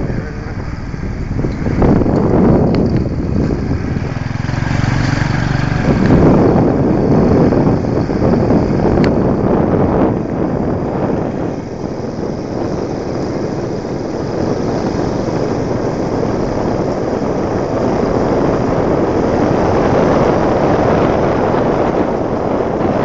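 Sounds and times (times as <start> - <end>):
motorbike engine: 0.0 - 23.0
wind rushing on microphone: 0.0 - 23.0.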